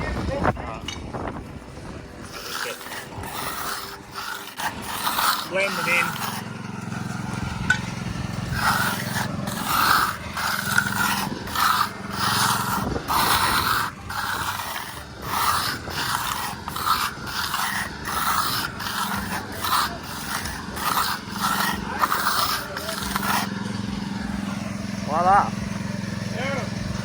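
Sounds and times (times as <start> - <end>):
trowel scraping wet concrete: 2.0 - 25.6.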